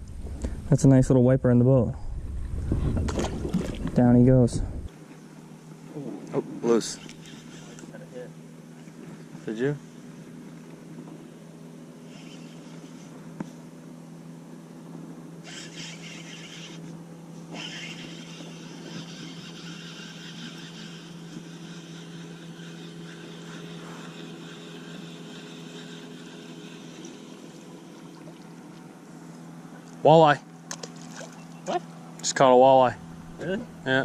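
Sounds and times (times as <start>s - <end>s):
small motor humming: 2.3s - 34.0s.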